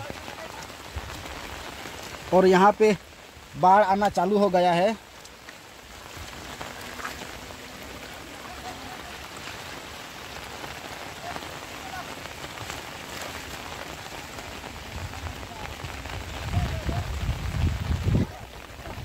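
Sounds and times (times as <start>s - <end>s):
rain on muddy ground and puddles: 0.0s - 19.0s.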